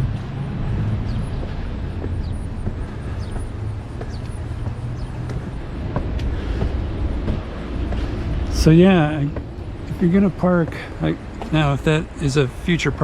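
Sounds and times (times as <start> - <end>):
continuous hum: 0.0 - 13.0
road traffic rumble: 0.0 - 13.0.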